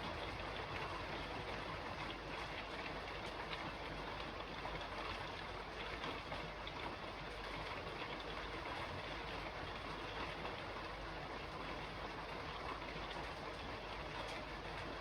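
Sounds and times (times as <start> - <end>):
rain falling on a roof: 0.0 - 15.0.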